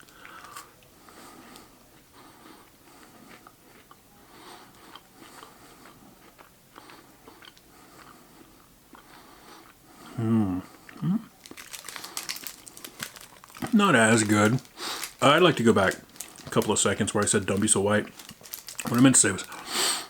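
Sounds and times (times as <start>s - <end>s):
person chewing crunchy food: 1.4s - 4.0s, 4.6s - 9.8s, 10.7s - 20.0s.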